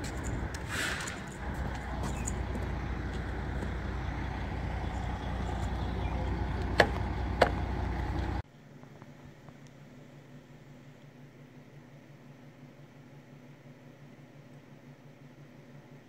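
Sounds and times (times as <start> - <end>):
steady low rumble: 0.0 - 13.2.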